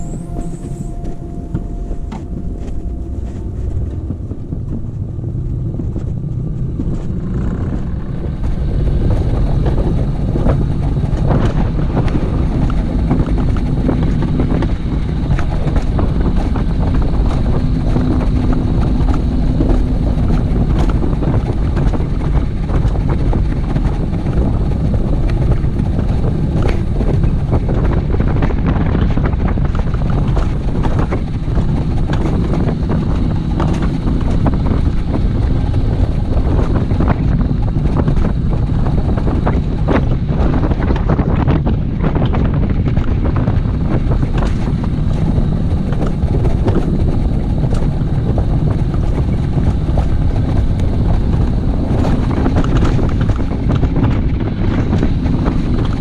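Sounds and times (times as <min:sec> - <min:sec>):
coaster sled wheels rumbling: 0:00.0 - 0:56.0
wind on microphone: 0:00.0 - 0:56.0.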